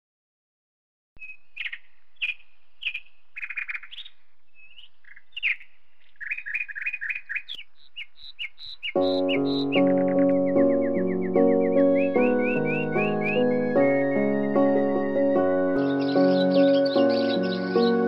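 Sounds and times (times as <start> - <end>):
songbirds chirping: 1.2 - 18.0.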